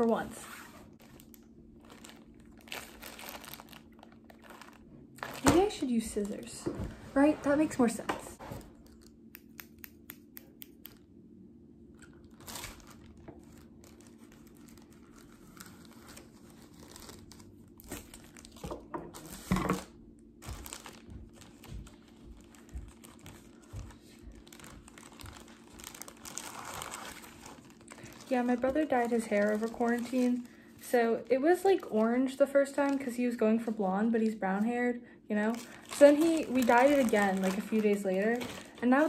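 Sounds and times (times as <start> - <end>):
plastic bags crinkling: 0.0 - 6.7, 12.1 - 33.7, 35.3 - 39.0.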